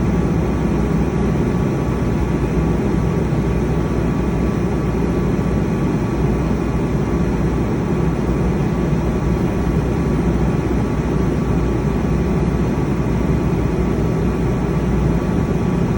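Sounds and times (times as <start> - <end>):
diesel generator running: 0.0 - 15.9.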